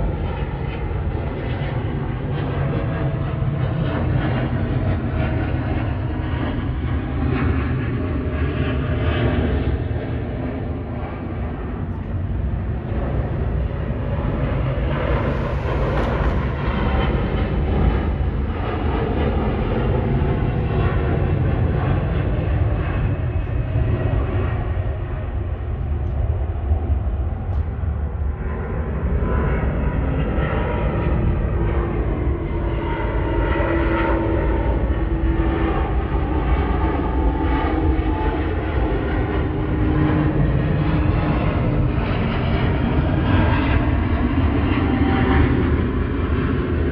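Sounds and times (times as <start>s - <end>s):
jet engine rumble: 0.0s - 46.9s.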